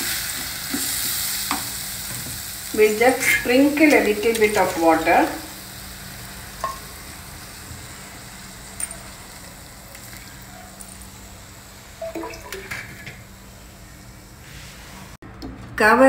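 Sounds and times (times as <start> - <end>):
water sprinkled onto frying beans: 0.0 - 13.4
faint steady sizzle: 0.0 - 15.2.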